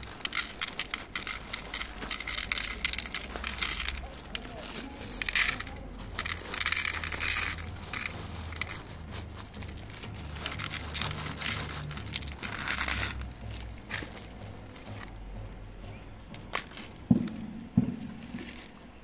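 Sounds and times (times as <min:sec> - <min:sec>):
kibble rattling onto plastic plates: 0:00.0 - 0:15.2, 0:16.3 - 0:18.8
cats crunching dry food: 0:00.0 - 0:15.3, 0:16.3 - 0:17.4
plastic bag crinkling: 0:00.0 - 0:19.0.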